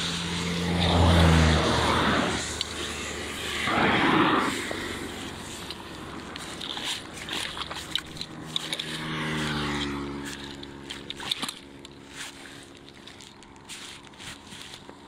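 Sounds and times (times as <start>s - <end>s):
motor vehicle engine hum: 0.0s - 15.0s.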